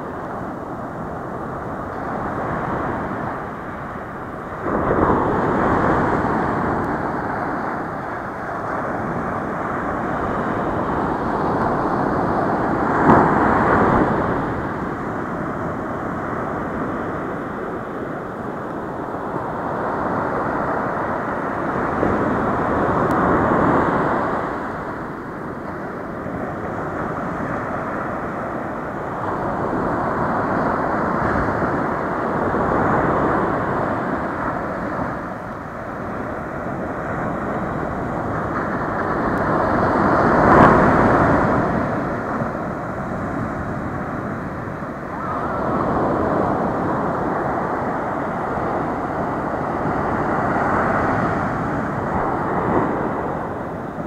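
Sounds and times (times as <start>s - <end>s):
waves washing up a beach: 0.0s - 54.0s.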